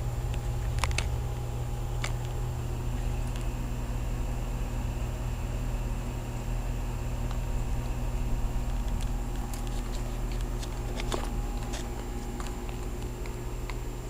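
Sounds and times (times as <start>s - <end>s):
heat pump unit humming: 0.0s - 14.0s.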